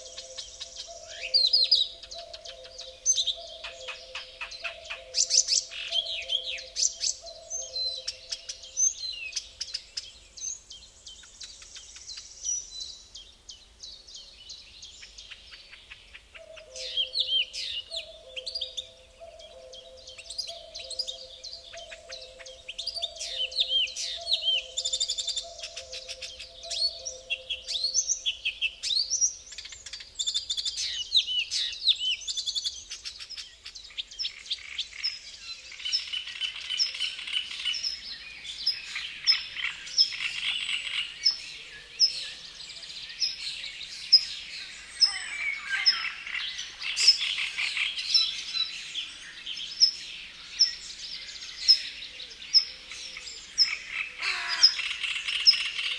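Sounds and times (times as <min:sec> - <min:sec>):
songbirds chorus: 0:00.0 - 0:55.9.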